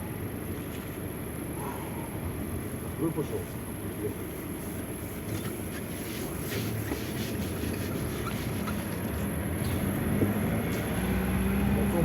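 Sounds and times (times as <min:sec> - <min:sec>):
vehicle rumble in motion: 0:00.0 - 0:12.0.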